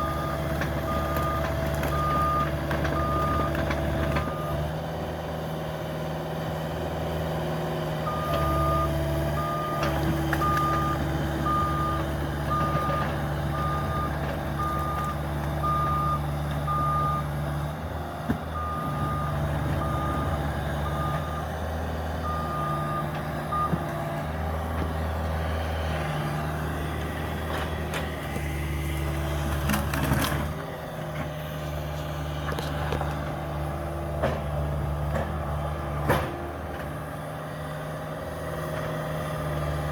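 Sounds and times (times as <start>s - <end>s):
mini excavator diesel engine: 0.0s - 39.9s.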